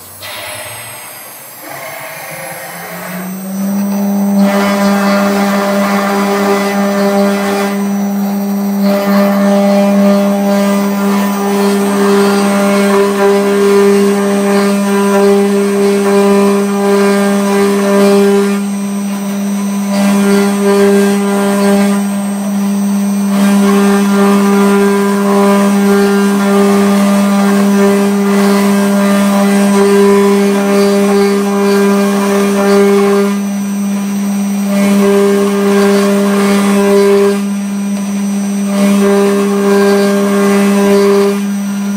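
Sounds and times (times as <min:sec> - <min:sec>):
cutter grinding metal: 0:00.0 - 0:41.9
router spindle whine: 0:00.0 - 0:41.9.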